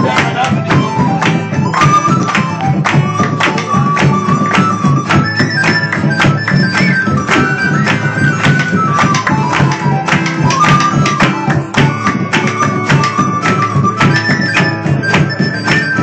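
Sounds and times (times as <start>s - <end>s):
acoustic guitar strumming: 0.0s - 16.0s
harmonica melody: 0.0s - 16.0s.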